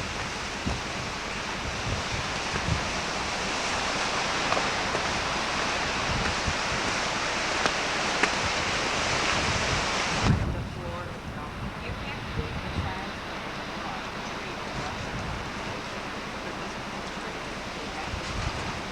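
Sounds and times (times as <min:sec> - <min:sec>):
steady rushing noise: 0:00.0 - 0:18.9.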